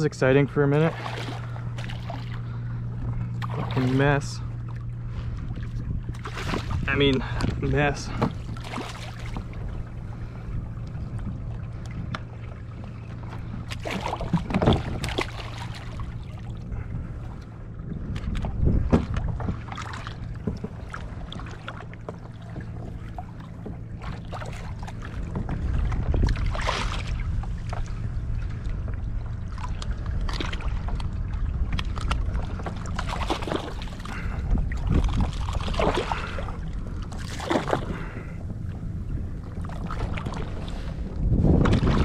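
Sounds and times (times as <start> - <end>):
waves lapping against kayak hull: 0.0 - 42.0
wind rumble on microphone: 0.0 - 42.0.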